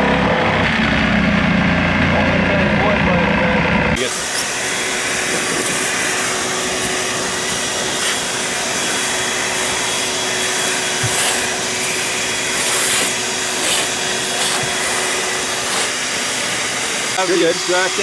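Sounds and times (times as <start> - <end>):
vacuum rushing with motor whine: 0.0 - 18.0.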